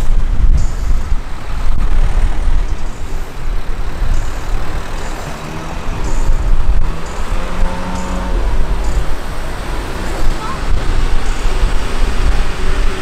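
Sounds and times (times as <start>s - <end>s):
cars passing in slow traffic: 0.0s - 13.0s.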